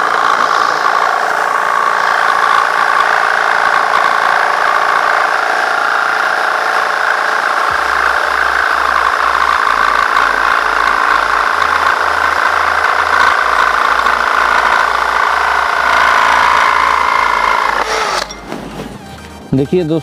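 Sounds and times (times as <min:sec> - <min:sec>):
drill motor whine: 0:00.0 - 0:18.5.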